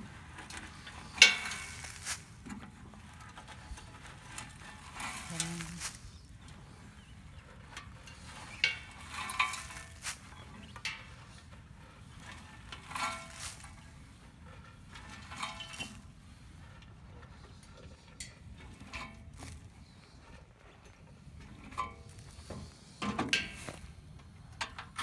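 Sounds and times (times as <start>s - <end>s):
hand pulling leaves from metal chute: 0.0s - 25.0s.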